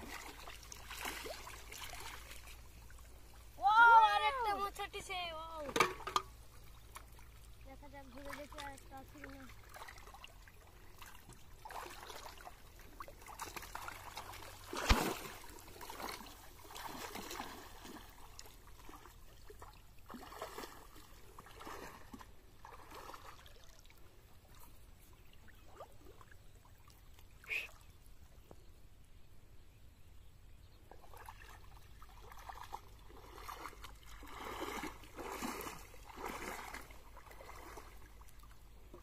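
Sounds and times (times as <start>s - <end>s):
water sloshing and splashing: 0.0s - 27.4s, 30.9s - 39.0s.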